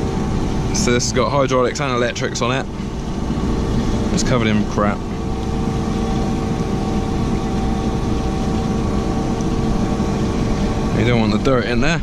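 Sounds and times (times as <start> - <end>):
combine harvester engine idling: 0.0 - 12.0.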